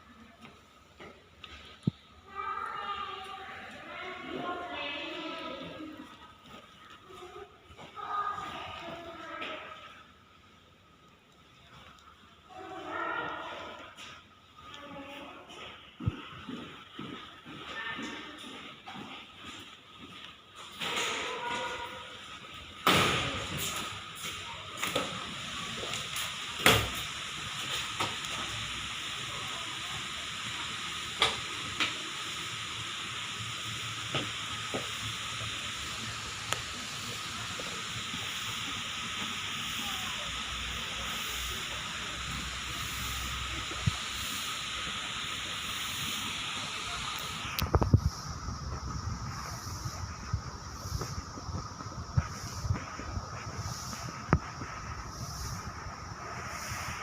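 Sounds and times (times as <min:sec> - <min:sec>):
steady hissing noise: 0:00.0 - 0:57.0.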